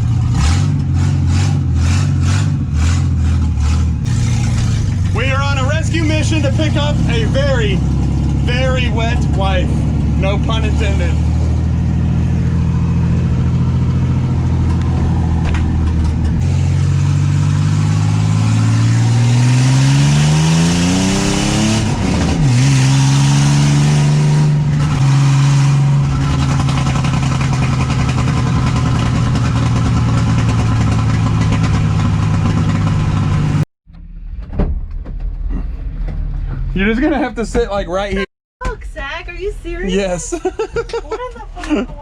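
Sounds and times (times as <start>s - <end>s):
car engine accelerating: 0.0s - 34.4s.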